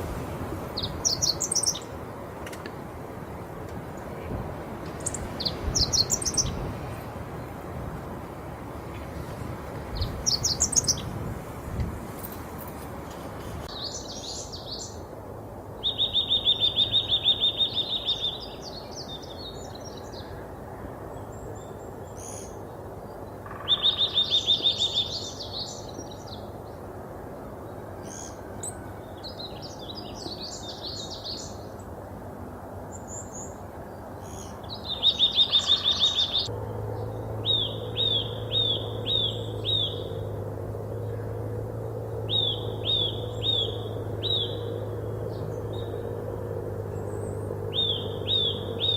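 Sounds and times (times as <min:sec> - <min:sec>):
birds trilling and chirping: 0:00.0 - 0:02.6, 0:03.9 - 0:07.7, 0:08.5 - 0:11.3, 0:12.2 - 0:32.0, 0:32.8 - 0:48.9
low steady hum: 0:00.0 - 0:48.9.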